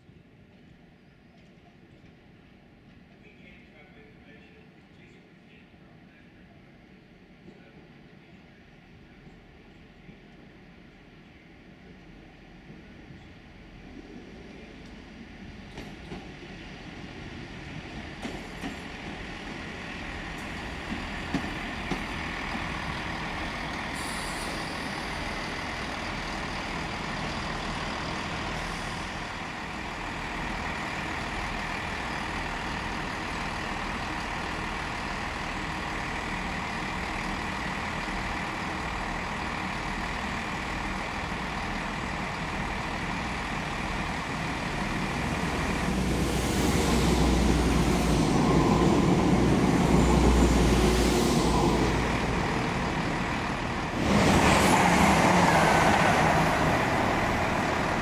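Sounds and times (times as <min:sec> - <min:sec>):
diesel train engine: 0:00.0 - 0:58.0
train wheels on rails: 0:09.2 - 0:58.0.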